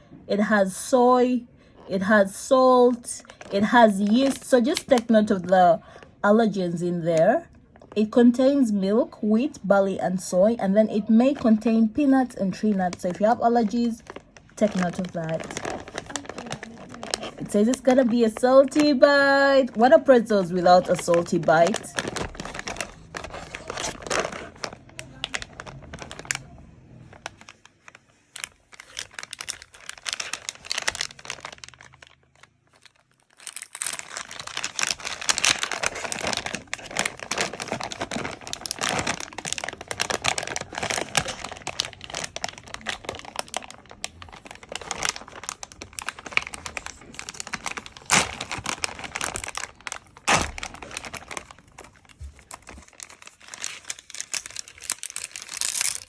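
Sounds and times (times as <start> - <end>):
plastic pouch crinkling: 2.9 - 6.1, 12.2 - 56.0.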